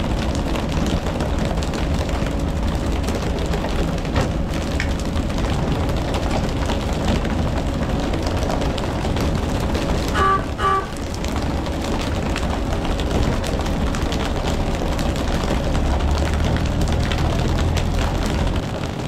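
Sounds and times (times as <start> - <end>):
boat engine rumbling: 0.0 - 19.0
wind: 0.0 - 19.0.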